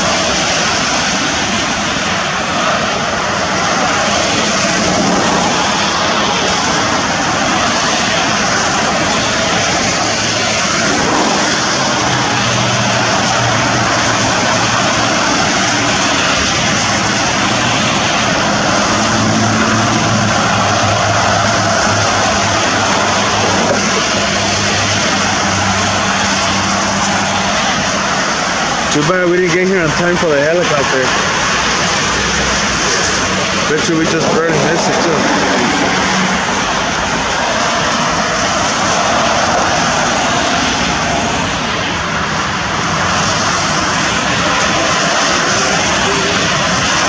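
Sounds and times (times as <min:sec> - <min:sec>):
freeway traffic roar: 0:00.0 - 0:47.0
low engine hum: 0:00.0 - 0:47.0
tyres on wet pavement: 0:00.0 - 0:47.0.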